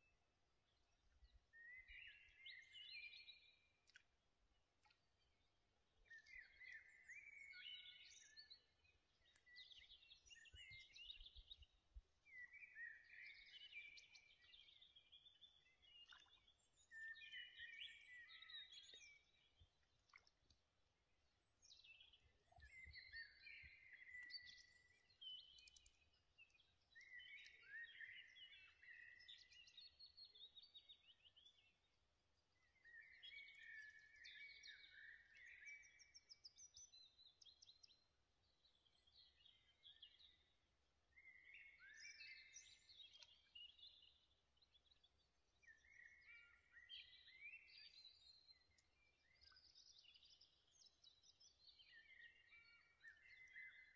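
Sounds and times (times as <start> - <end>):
faint songbirds singing with trills: 0.0 - 53.9.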